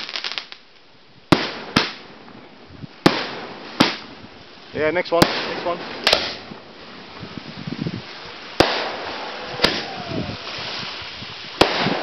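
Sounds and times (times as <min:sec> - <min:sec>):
fireworks bangs: 0:01.3 - 0:12.0.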